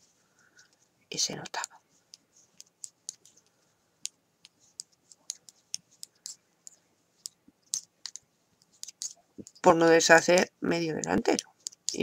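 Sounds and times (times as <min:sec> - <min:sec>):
knitting needles clicking: 0:00.5 - 0:12.0.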